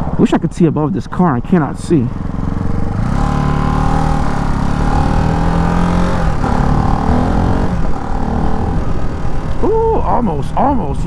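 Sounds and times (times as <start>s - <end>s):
single-cylinder motorcycle engine: 1.4s - 10.2s.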